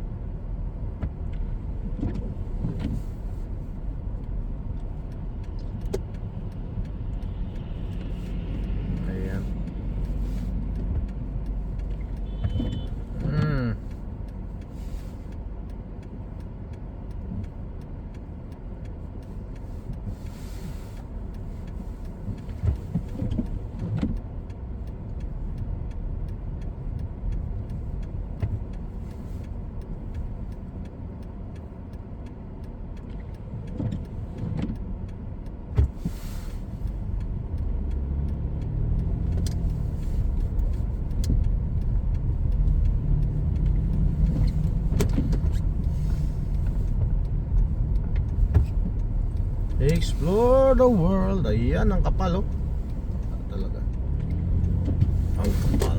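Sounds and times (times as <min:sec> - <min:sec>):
engine and tyres rumbling: 0:00.0 - 0:55.9.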